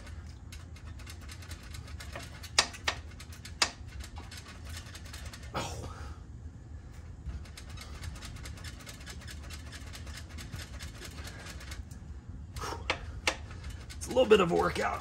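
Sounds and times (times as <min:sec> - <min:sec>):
metallic clicks and creaks: 0:00.0 - 0:05.6, 0:06.9 - 0:15.0
low steady rumble: 0:00.0 - 0:15.0.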